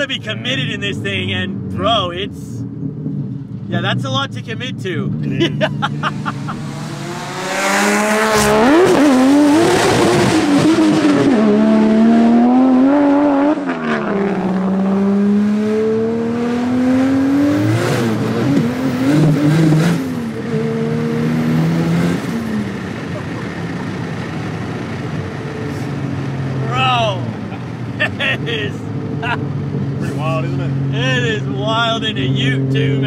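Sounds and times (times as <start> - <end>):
car engine revving under full throttle: 0.0 - 4.2, 4.8 - 33.0.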